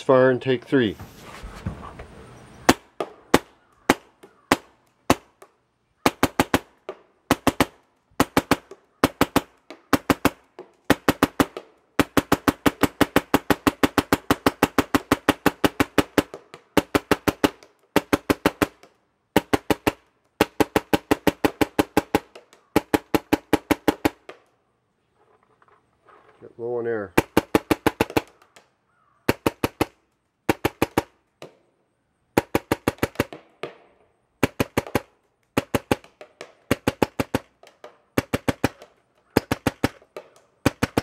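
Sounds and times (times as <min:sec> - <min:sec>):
paintball gun shots popping: 0:02.6 - 0:24.6, 0:27.1 - 0:31.7, 0:32.3 - 0:41.0.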